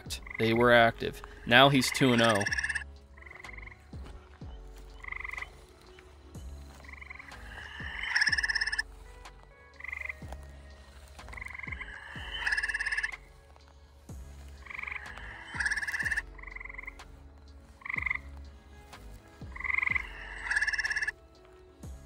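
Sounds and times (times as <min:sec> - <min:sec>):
tree frogs trilling: 0:00.0 - 0:22.0.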